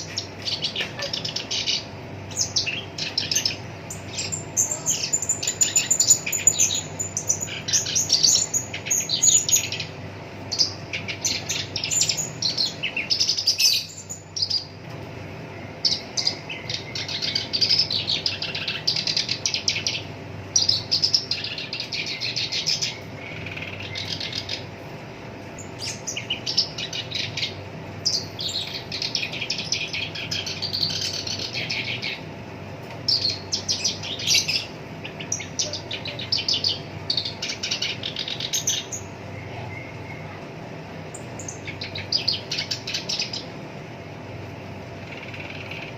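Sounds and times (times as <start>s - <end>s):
reed warbler singing: 0.0s - 14.8s, 15.6s - 24.8s, 25.4s - 32.4s, 33.0s - 40.4s, 41.0s - 43.8s, 44.4s - 45.9s.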